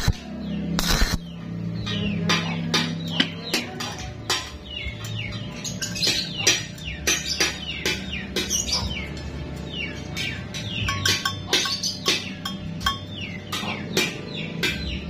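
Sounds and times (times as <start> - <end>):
small birds chirping: 0.0 - 15.0
background music: 1.5 - 15.0.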